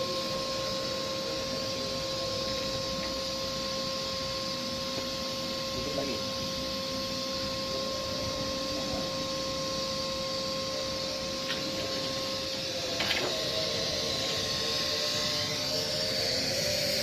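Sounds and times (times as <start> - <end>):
high-pitched machinery hum: 0.0 - 17.0.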